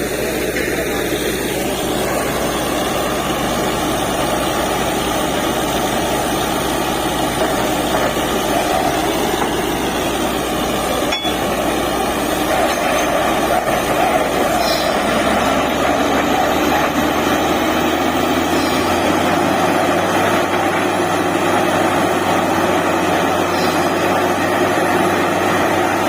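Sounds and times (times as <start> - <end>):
air compressor running: 0.0 - 26.0
drilling rig diesel engine: 0.0 - 26.0.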